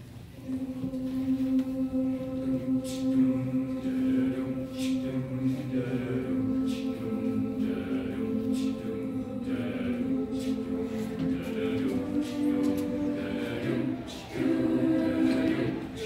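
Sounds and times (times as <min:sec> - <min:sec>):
choir singing long chords: 0:00.3 - 0:16.0.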